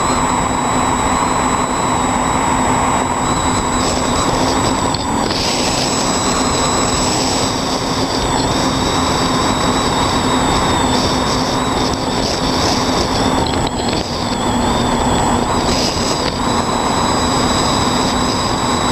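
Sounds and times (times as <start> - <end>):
drone motors humming and whining: 0.0 - 18.9.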